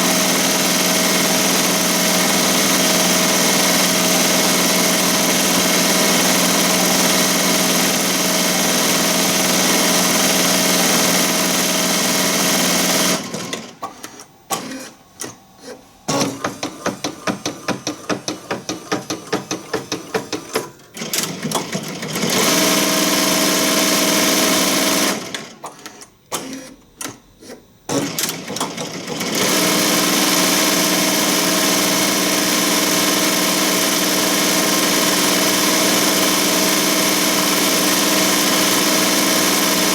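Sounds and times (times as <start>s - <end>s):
embroidery machine stitching: 0.0s - 15.4s, 16.1s - 39.9s.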